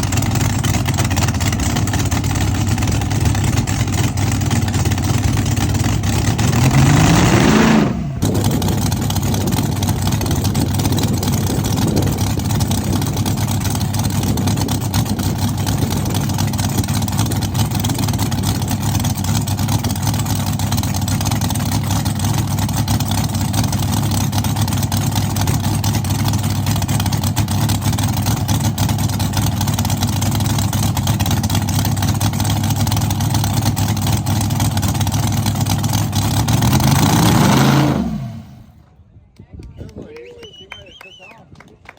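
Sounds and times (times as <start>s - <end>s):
car engine revving: 0.0s - 38.8s.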